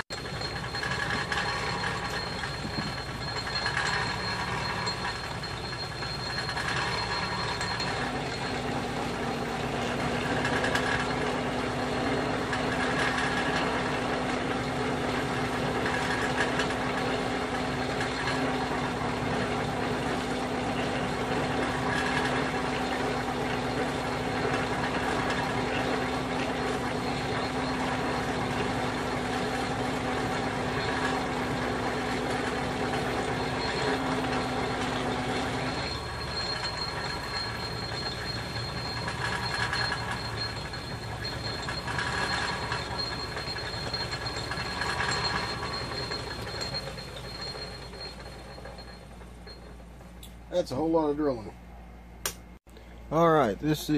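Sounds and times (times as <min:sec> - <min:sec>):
lathe machine hum: 0:00.0 - 0:50.1.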